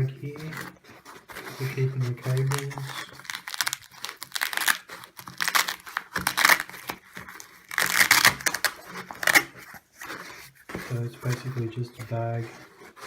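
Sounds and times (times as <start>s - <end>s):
bag rustling and crinkling: 0.0s - 13.0s.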